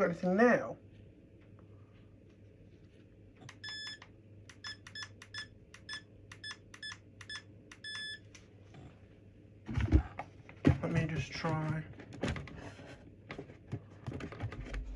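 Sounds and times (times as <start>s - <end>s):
faint low hum: 0.0s - 14.9s.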